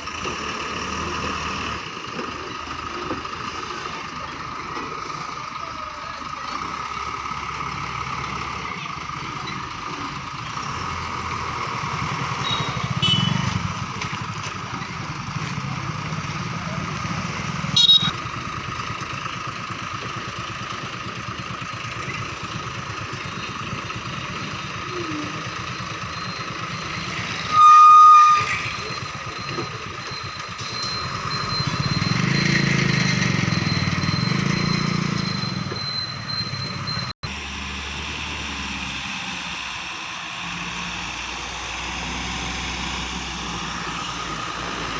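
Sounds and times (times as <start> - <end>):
diesel engine revving: 0.0 - 27.7, 28.3 - 44.9.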